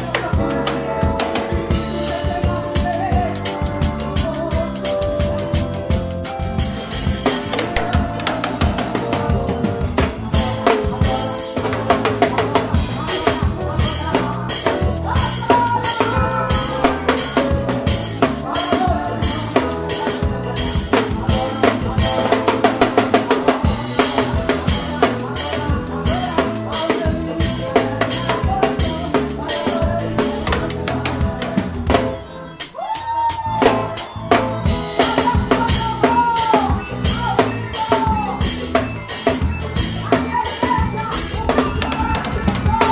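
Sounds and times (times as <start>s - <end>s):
band playing worship song: 0.0s - 42.9s
drum kit played hard: 0.0s - 42.9s.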